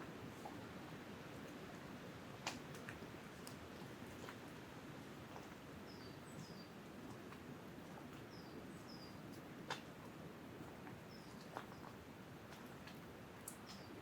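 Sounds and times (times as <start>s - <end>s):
wind through treetops: 0.0s - 14.0s.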